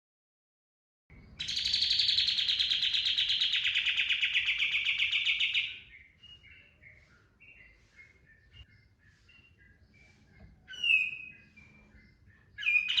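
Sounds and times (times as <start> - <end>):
soft bird chirps: 1.1 - 13.0
songbird rapid trill: 1.2 - 13.0.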